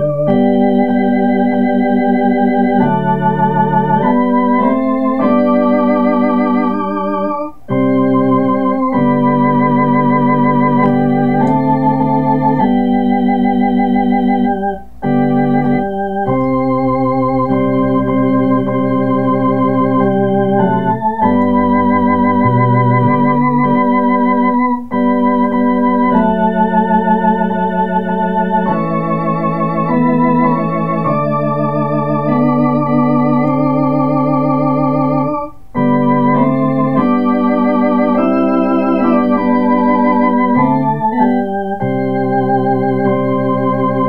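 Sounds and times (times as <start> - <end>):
organ playing a hymn: 0.0 - 44.0.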